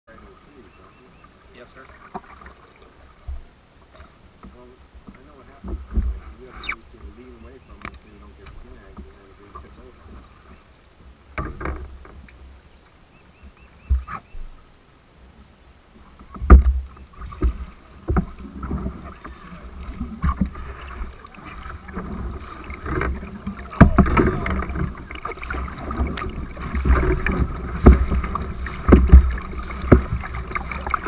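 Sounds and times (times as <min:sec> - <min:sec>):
water splashing and rushing: 0:00.0 - 0:31.0
paddle knocking against hull: 0:01.8 - 0:10.6, 0:11.3 - 0:12.5, 0:13.4 - 0:14.6, 0:16.0 - 0:31.0.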